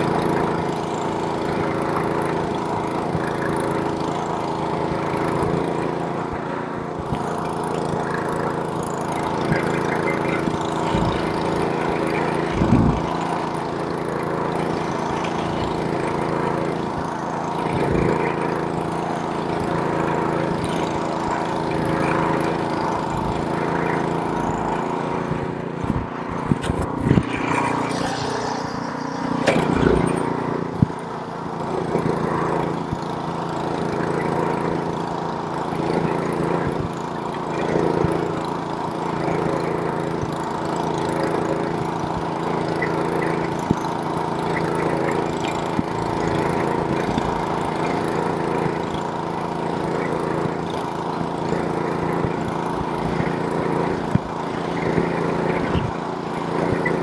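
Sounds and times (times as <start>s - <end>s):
snowblower engine running: 0.0s - 57.0s.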